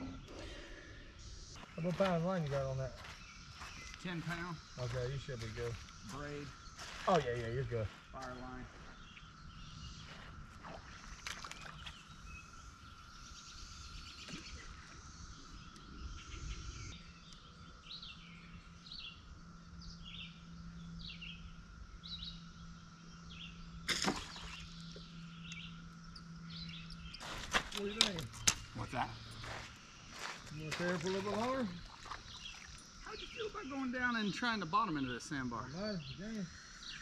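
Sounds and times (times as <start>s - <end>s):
low steady hum: 0.0s - 37.0s
outdoor background noise: 0.0s - 37.0s
small birds chirping: 0.0s - 37.0s.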